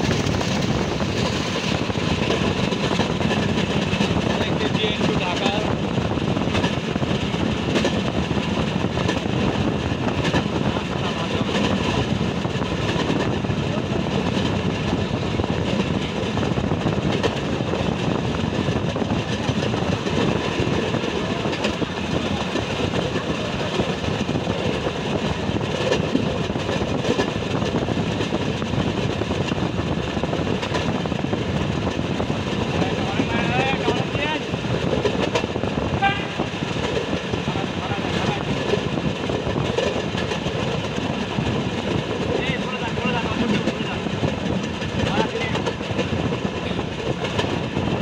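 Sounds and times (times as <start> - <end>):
wheels rumbling on rails: 0.0 - 48.0.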